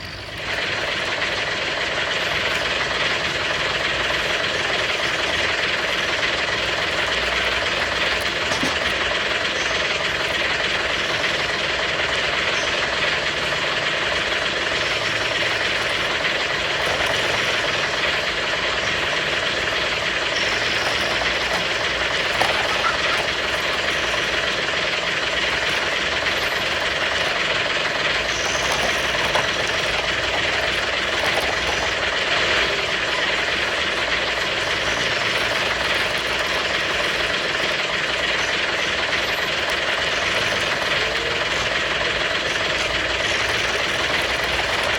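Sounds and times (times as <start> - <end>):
road noise: 0.0 - 44.9
truck engine running: 0.0 - 44.9.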